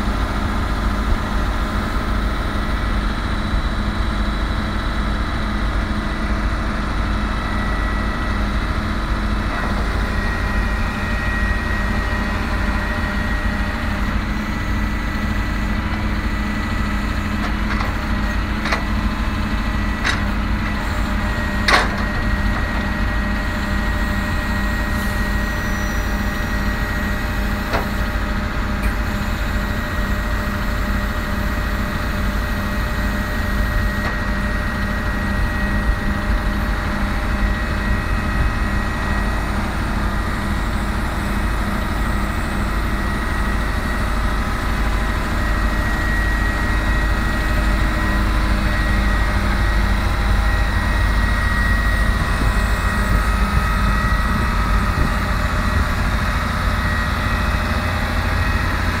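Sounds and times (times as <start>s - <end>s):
diesel truck engine running: 0.0s - 59.0s
thin steady whine: 0.0s - 59.0s.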